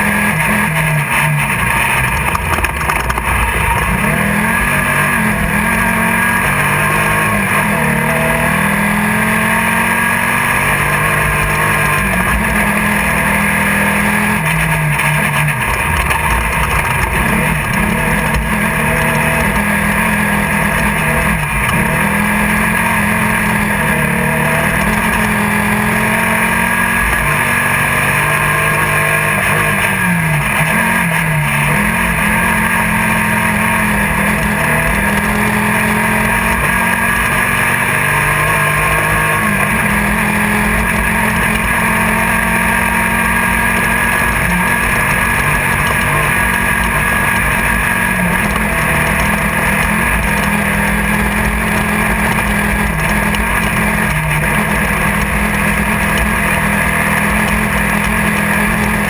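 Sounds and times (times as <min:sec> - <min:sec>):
buggy engine running hard: 0:00.0 - 0:59.0.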